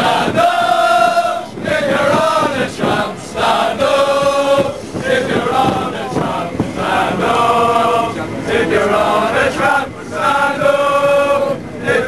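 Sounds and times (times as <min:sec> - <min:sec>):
crowd singing a chant: 0:00.0 - 0:12.0.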